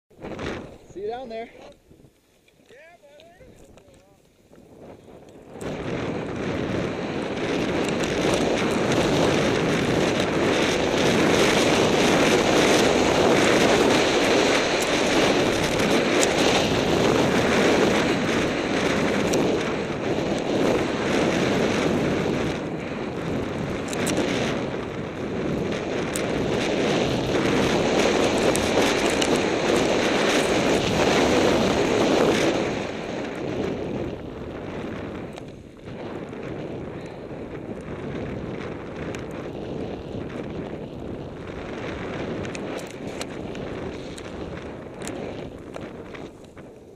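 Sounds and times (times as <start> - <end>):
wind rushing over microphone: 0.1 - 46.9
skis running through snow: 0.2 - 46.9.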